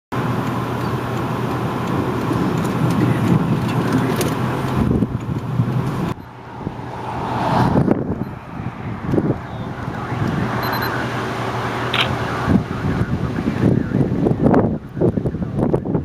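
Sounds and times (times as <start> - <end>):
car driving rumble: 0.1 - 16.0
road and wind noise: 0.1 - 16.0.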